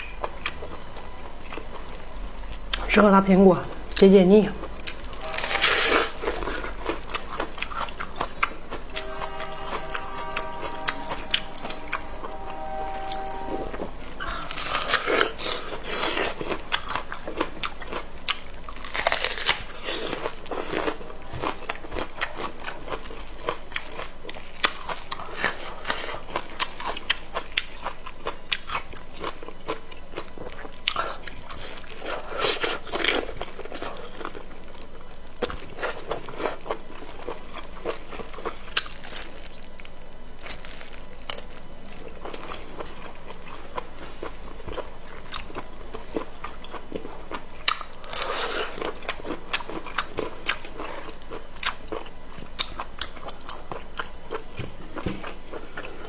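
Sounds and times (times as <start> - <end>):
person chewing food: 4.7 - 13.1, 13.7 - 56.0
crunching: 4.7 - 54.4.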